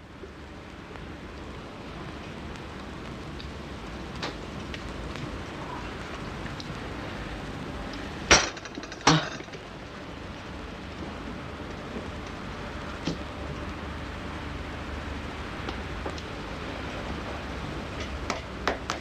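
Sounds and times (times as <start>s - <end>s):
quiet steady hiss: 0.0s - 19.0s.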